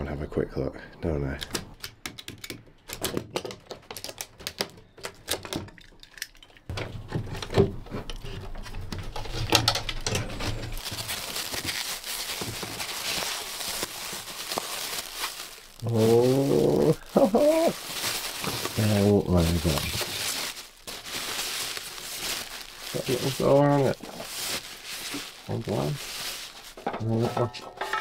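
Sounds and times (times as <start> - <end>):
plastic wrapping rustling: 3.3 - 27.5.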